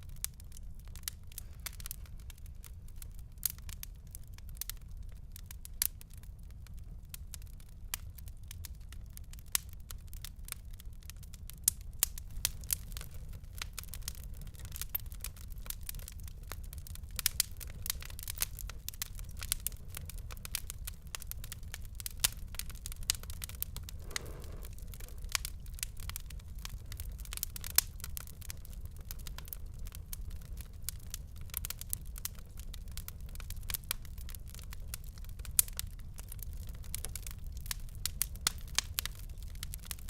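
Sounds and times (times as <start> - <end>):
fire low rumble: 0.0 - 40.0
wood fire crackling and popping: 0.0 - 40.0.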